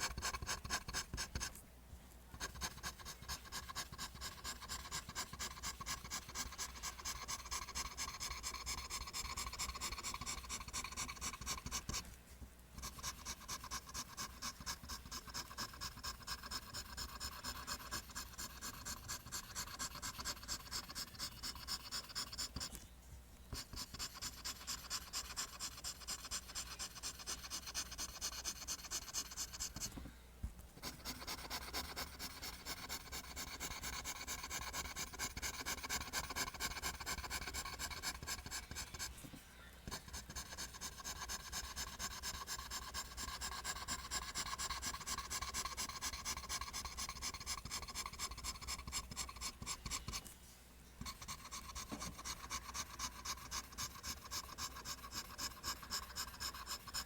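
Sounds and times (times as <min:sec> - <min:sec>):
pencil drawing on paper: 0:00.0 - 0:01.5, 0:02.4 - 0:12.0, 0:12.8 - 0:22.8, 0:23.5 - 0:29.9, 0:30.8 - 0:39.2, 0:39.9 - 0:50.3, 0:51.0 - 0:57.0.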